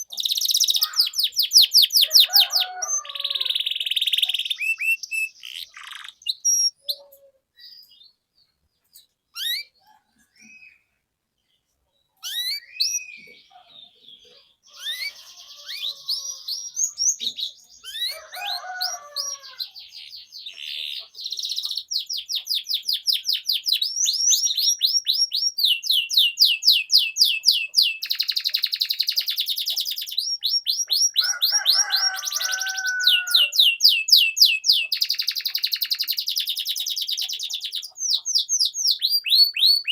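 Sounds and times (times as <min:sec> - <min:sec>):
canary singing: 0:00.0 - 0:11.0, 0:12.2 - 0:39.9.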